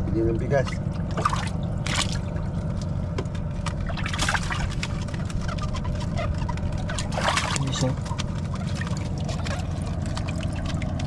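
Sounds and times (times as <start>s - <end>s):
steady low rumble: 0.0s - 11.0s
water splashing and trickling: 0.0s - 11.0s.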